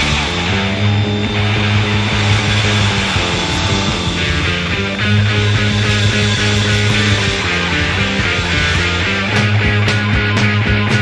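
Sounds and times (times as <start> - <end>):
blues-rock band playing: 0.0 - 11.0
drum strokes: 0.0 - 11.0
sustained low notes: 0.0 - 11.0.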